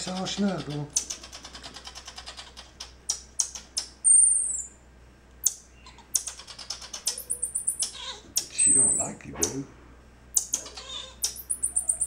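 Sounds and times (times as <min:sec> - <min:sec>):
marmoset chirps and clicks: 0:00.0 - 0:09.6, 0:10.3 - 0:12.0.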